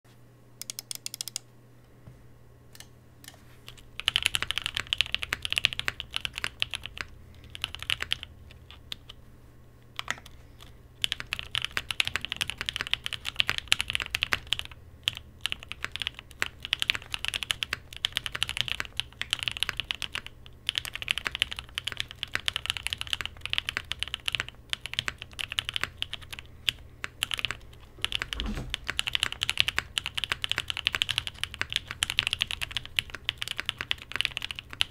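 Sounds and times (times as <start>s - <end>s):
typing on mechanical keyboard: 0.6s - 1.4s, 3.7s - 9.2s, 10.0s - 34.9s.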